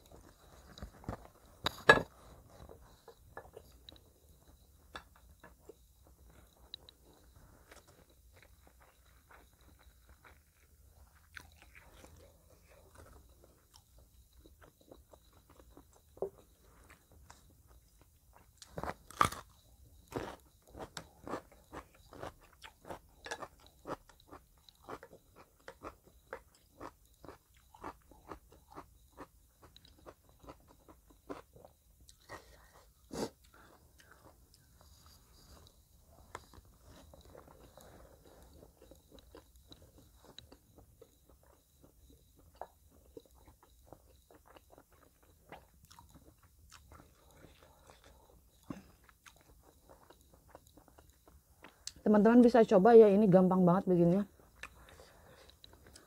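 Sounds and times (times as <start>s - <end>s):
chewing with mouth smacks: 0.1s - 52.0s, 54.4s - 56.0s.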